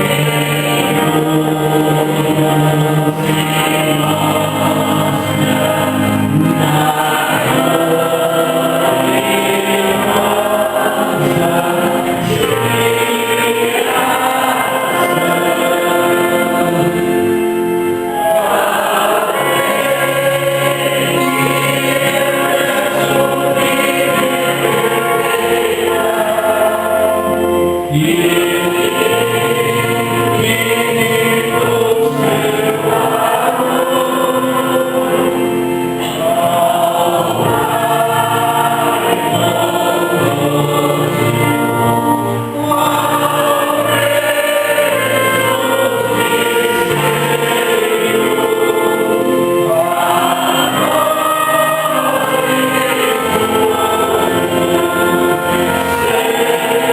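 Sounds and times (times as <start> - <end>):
church choir singing a hymn: 0.0 - 56.9.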